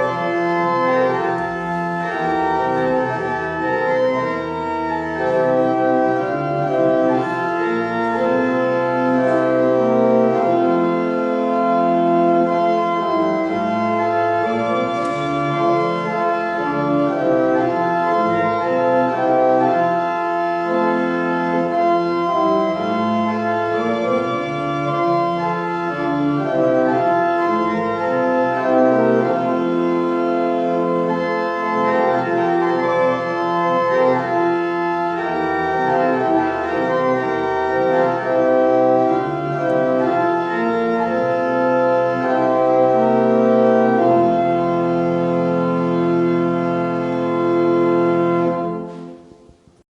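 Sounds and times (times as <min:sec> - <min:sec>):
church organ slow chords: 0:00.0 - 0:49.8.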